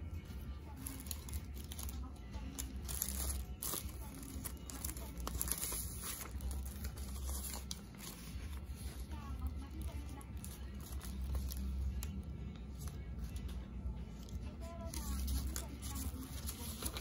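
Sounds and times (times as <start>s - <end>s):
paper and plastic crinkling: 0.6s - 12.2s, 14.2s - 17.0s.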